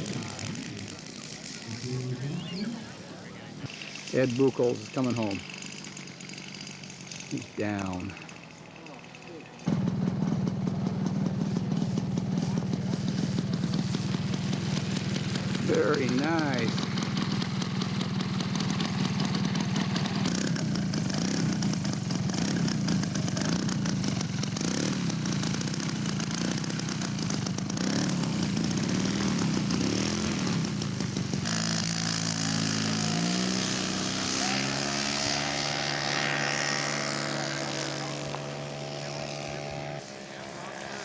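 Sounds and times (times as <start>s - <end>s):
model airplane engine running: 3.4s - 33.0s, 35.0s - 41.0s.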